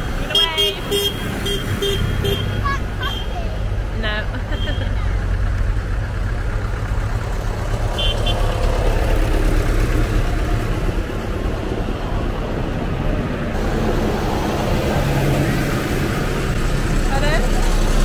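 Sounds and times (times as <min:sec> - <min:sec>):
tractor engines rumbling: 0:00.0 - 0:18.0.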